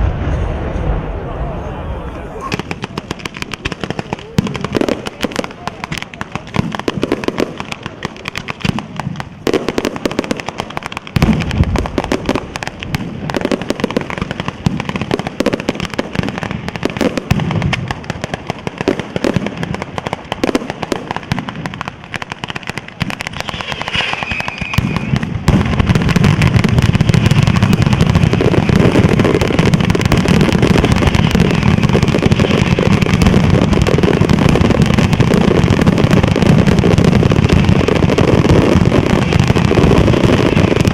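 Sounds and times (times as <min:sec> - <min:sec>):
firecracker bangs: 0:00.0 - 0:01.3, 0:02.4 - 0:40.9
aerial firework bursts: 0:00.0 - 0:40.9.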